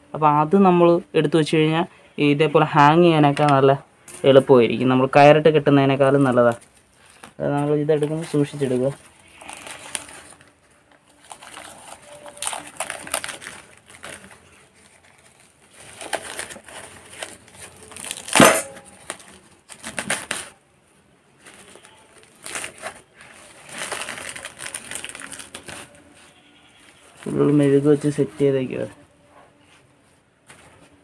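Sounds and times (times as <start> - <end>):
wrapping sheet rustling and crinkling: 5.5 - 31.0.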